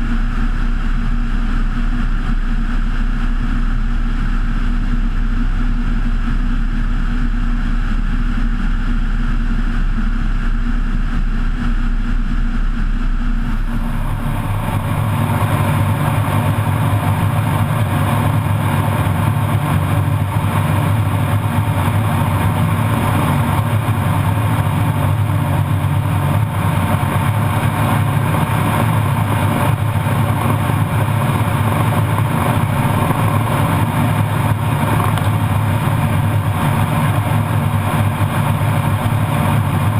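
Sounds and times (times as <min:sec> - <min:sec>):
plane engine and propeller: 0:00.0 - 0:39.9.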